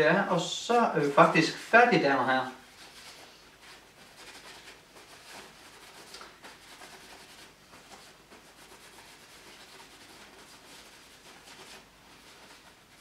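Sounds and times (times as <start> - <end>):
paper towel rustling: 0.0 - 13.0.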